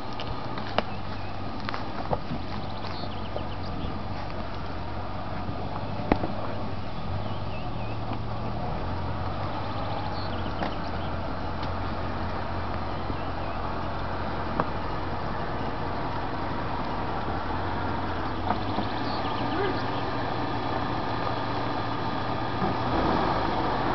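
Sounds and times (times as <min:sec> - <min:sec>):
vehicle engine at low revs: 0:00.0 - 0:23.9.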